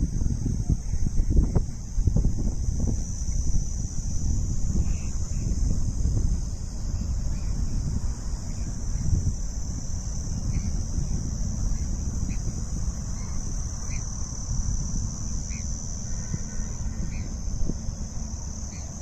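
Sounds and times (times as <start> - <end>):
insect chorus: 0.0 - 19.0
wind rumble on microphone: 0.0 - 19.0.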